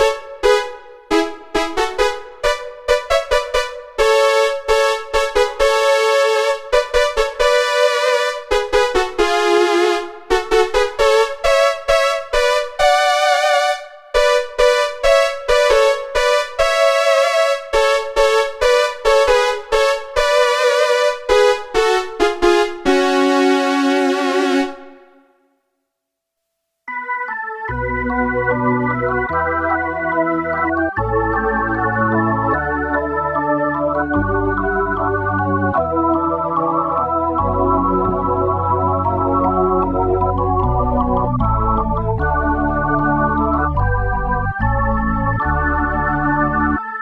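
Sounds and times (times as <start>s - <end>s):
synthesizer electric piano notes and chords: 0.0s - 25.2s, 26.9s - 47.0s.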